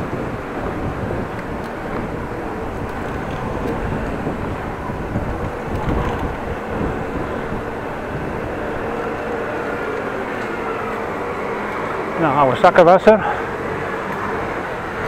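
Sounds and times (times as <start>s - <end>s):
wind buffeting microphone: 0.0s - 12.7s
city traffic: 0.0s - 15.0s
road noise: 0.0s - 15.0s.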